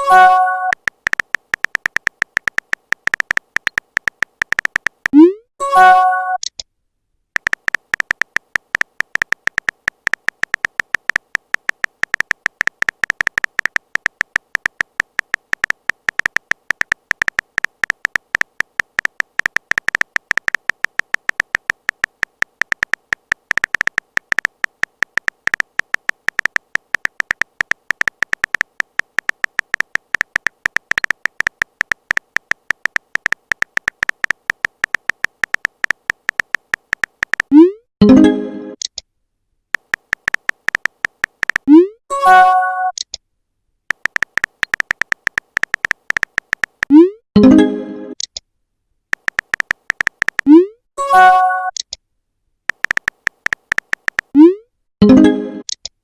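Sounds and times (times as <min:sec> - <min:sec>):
phone keyboard typing clicks: 0:00.0 - 0:05.3, 0:07.4 - 0:37.6, 0:39.8 - 0:43.2, 0:43.9 - 0:48.4, 0:49.1 - 0:50.6, 0:52.7 - 0:56.0.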